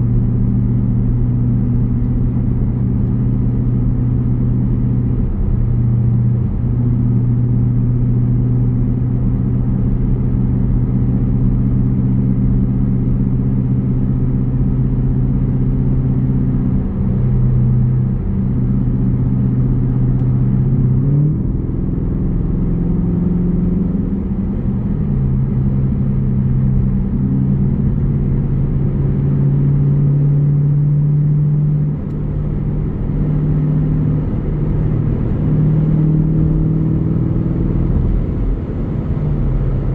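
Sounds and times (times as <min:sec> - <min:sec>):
car exhaust rumbling: 0:00.0 - 0:39.9.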